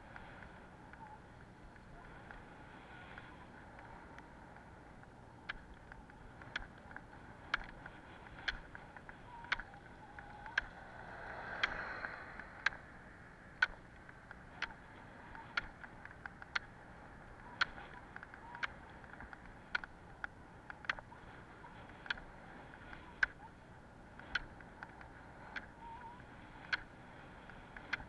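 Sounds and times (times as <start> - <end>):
roller-ski wheels rolling on road: 0.0 - 28.0.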